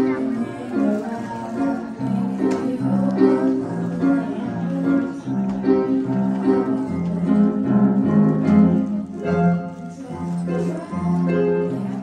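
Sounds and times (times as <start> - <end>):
upright piano playing: 0.0 - 12.0.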